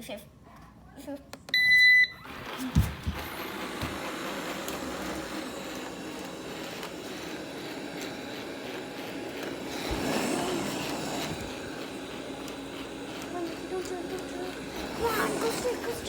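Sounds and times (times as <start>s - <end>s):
robot vacuum whirring: 2.2s - 16.0s.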